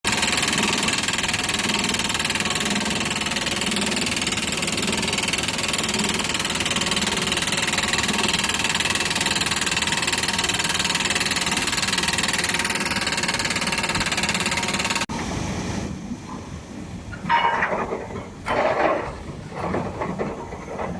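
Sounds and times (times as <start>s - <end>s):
drilling rig engine and machinery: 0.1s - 20.9s.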